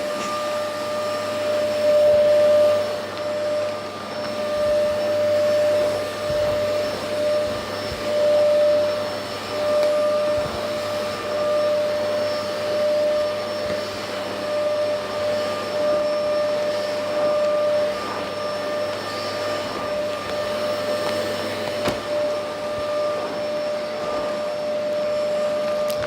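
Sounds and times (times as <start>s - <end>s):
vacuum cleaner motor whine: 0.0s - 26.0s.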